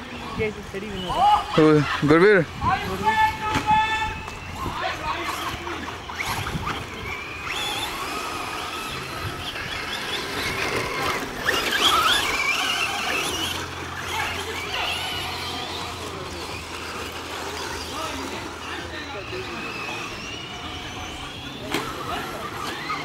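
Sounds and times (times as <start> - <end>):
electric rc car motors whining: 0.0 - 23.0.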